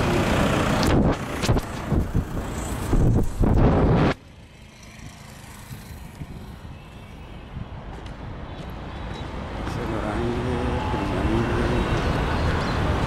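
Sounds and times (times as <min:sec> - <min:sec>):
steady traffic noise: 0:00.0 - 0:13.0
traffic rushing past: 0:00.0 - 0:13.0.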